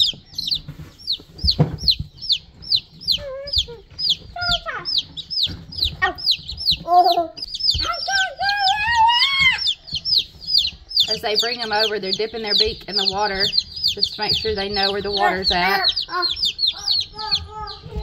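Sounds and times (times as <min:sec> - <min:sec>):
baby chicks peeping: 0:00.0 - 0:18.0.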